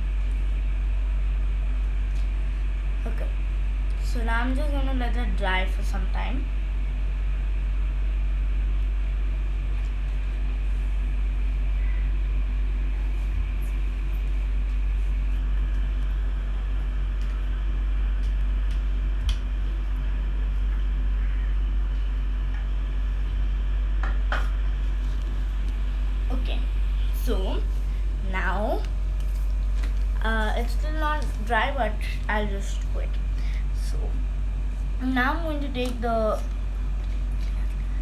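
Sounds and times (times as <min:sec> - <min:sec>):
low hum: 0:00.0 - 0:38.0.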